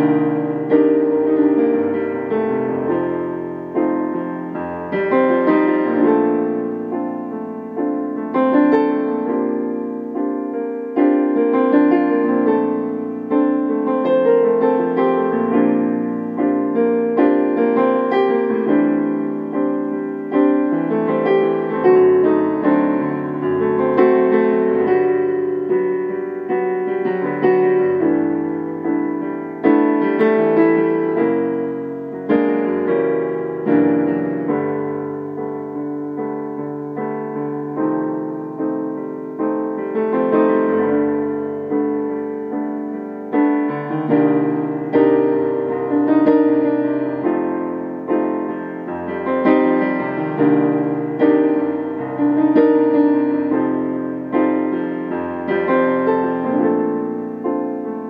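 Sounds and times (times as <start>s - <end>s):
slow digital piano piece: 0.0s - 58.0s.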